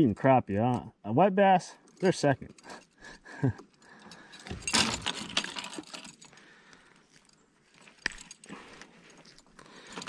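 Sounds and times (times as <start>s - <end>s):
fishing gear clinking: 1.8s - 10.0s.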